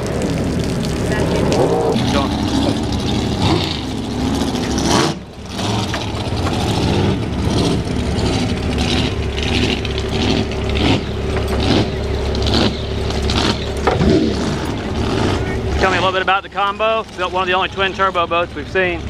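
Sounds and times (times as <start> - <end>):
boat engine pulsing: 0.0 - 19.0.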